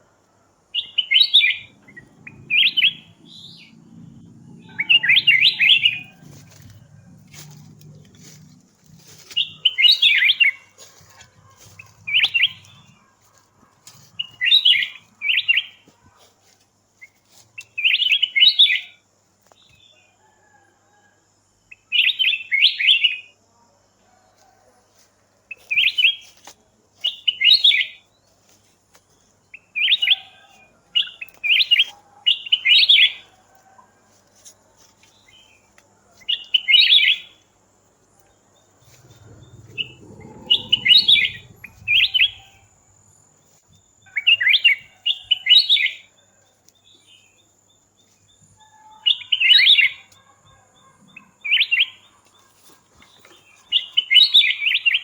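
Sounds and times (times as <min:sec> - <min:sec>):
songbird chirping: 0:00.0 - 0:20.2, 0:21.6 - 0:55.0.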